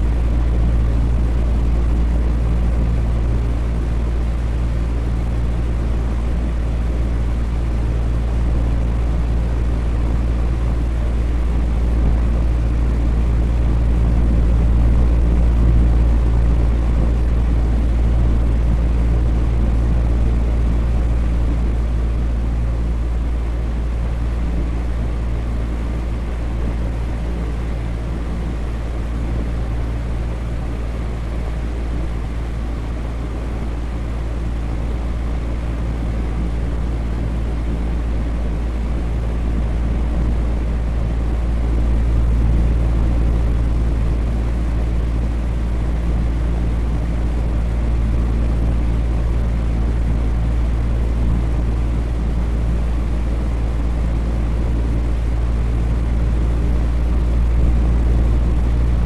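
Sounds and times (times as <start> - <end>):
electric fan air rushing: 0.0 - 59.0
fan motor hum: 0.0 - 59.0.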